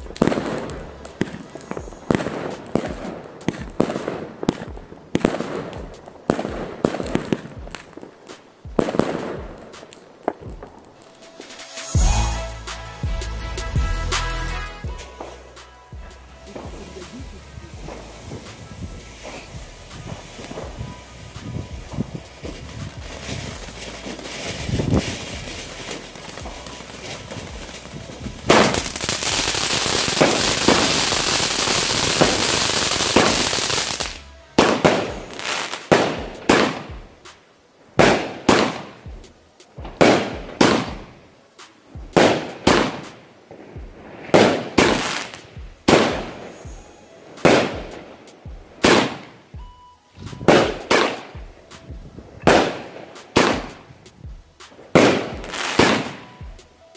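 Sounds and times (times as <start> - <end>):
firework bangs overhead: 0.0 - 12.4, 16.4 - 37.4, 38.0 - 41.3, 41.9 - 56.6
firework crackling: 0.0 - 56.9.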